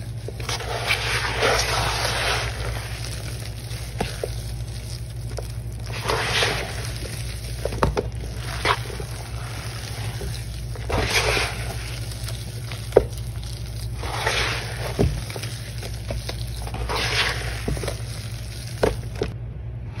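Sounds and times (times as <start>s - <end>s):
hands squishing wet paste: 0.0s - 19.4s
low steady hum: 0.0s - 20.0s.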